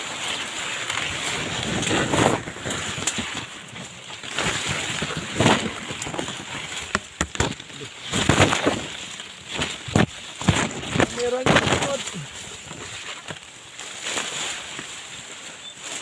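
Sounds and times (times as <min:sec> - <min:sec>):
rustling through undergrowth: 0:00.0 - 0:16.0
twigs snapping: 0:00.2 - 0:15.2.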